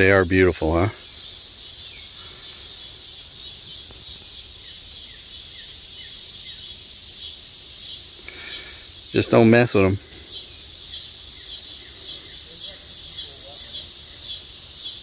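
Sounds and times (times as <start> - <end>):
pulsing insect chorus: 0.0 - 15.0.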